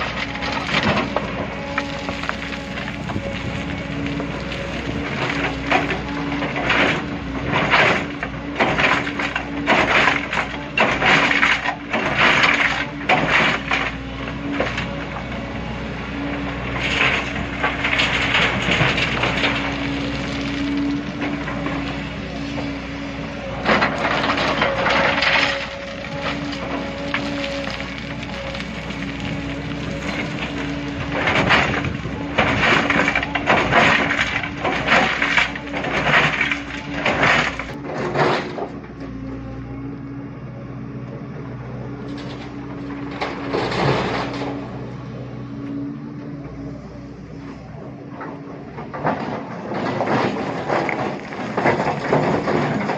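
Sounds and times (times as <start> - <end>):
rocks scraping and clattering: 0.0 - 39.0, 42.0 - 44.8, 47.6 - 52.9
diesel engine hum: 0.0 - 52.9.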